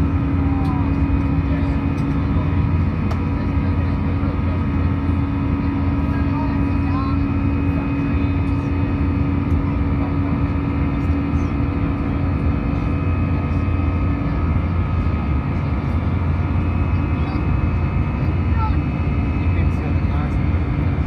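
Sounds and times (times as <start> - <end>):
jet engine rush in cabin: 0.0 - 21.0.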